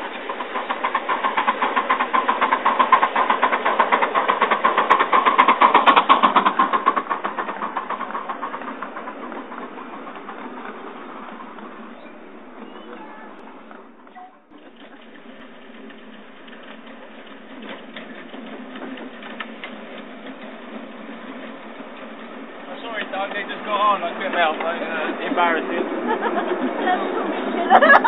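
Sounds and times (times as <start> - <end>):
miniature steam locomotive chuffing: 0.0 - 28.0.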